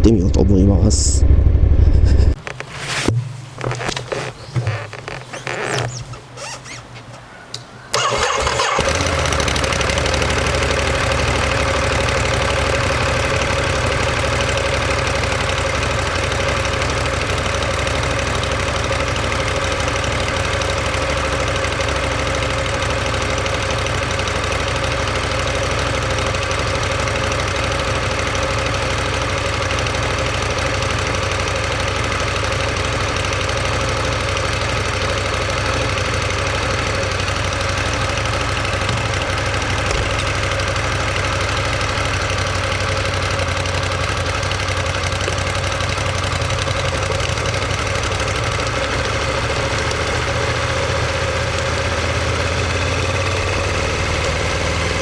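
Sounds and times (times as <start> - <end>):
motorcycle engine idling: 3.1 - 55.0.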